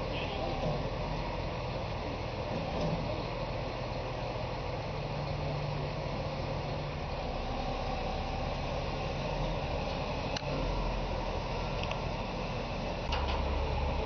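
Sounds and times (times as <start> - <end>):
heavy equipment engine running: 0.0 - 14.0.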